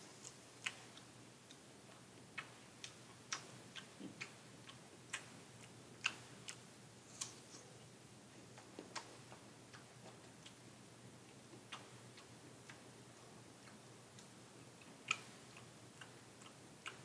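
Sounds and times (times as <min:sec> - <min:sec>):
apple being chewed: 0:00.1 - 0:17.0.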